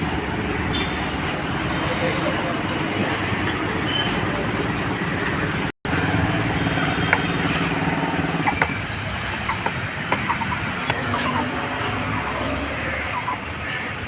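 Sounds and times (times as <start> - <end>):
vehicle engine and traffic noise: 0.0 - 14.0.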